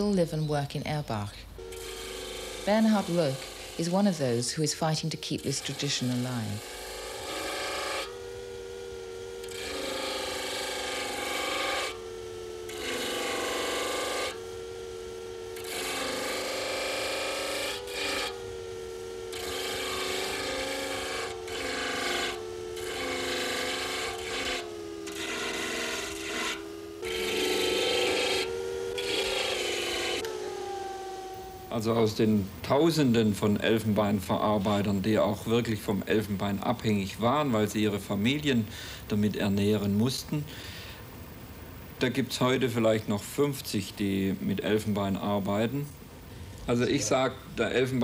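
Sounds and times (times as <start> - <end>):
disc sander grinding: 1.6 - 48.0
sander motor humming: 1.6 - 48.0.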